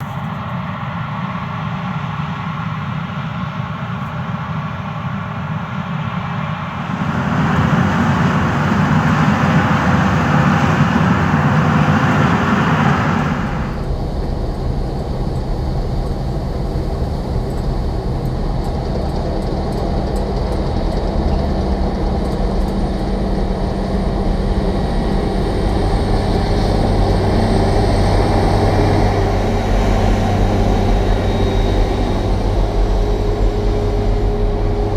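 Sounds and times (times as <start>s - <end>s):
combine harvester running: 3.5s - 34.9s.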